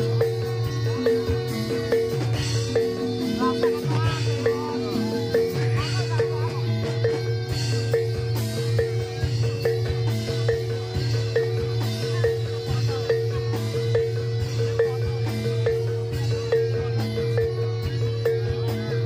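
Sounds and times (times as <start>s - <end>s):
metallophones struck in a pattern: 0.0s - 19.0s.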